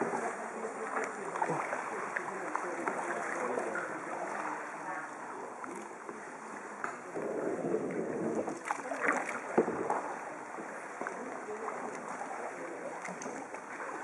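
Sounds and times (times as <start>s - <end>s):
paddles splashing in water: 0.0s - 14.0s.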